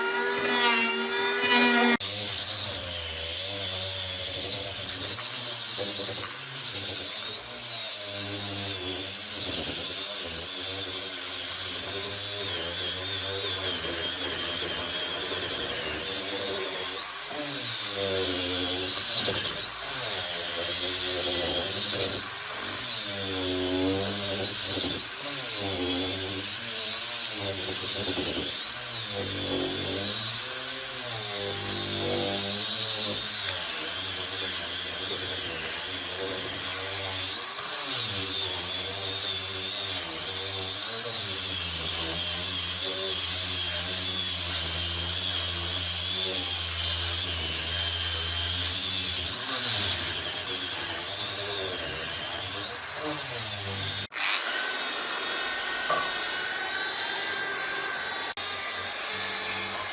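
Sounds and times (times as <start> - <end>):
power tool cutting wood: 0.0 - 59.9.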